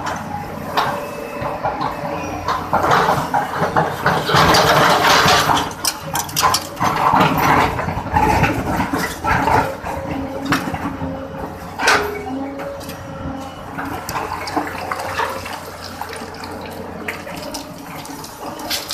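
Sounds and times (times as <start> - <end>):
excavator engine running: 0.0 - 18.9.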